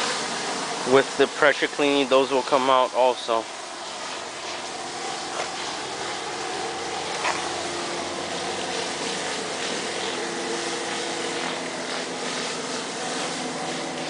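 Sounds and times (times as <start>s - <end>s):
pressure washer hum: 0.0s - 14.0s
water spraying hiss: 0.0s - 14.0s.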